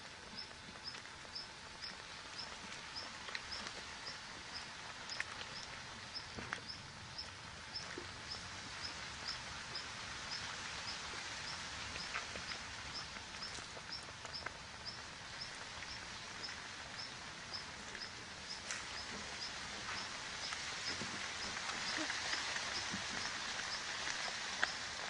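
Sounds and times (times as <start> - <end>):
outdoor hiss: 0.0 - 25.0.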